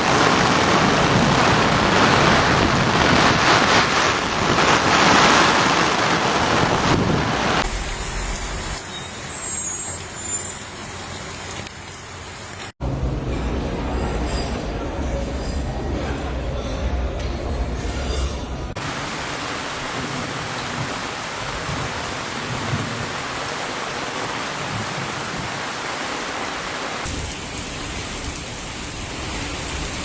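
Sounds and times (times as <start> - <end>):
heavy rain rushing: 0.0 - 30.0.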